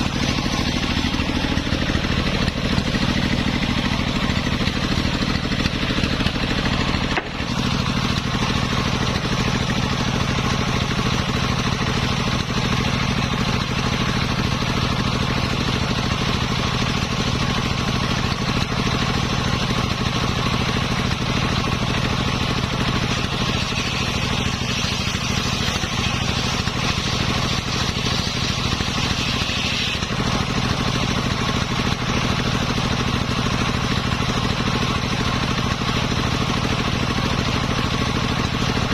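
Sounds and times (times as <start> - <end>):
saw rig engine running: 0.0 - 38.9.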